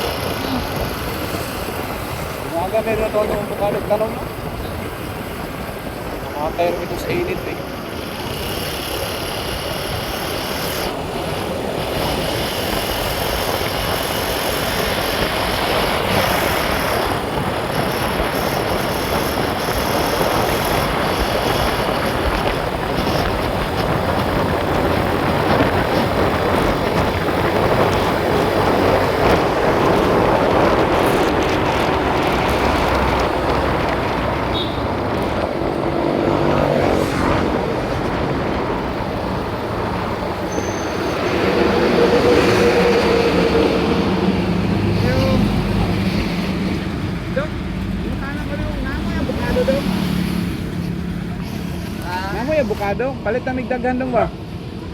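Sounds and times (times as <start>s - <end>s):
road and wind noise: 0.0s - 54.9s
vehicle engine: 0.0s - 54.9s.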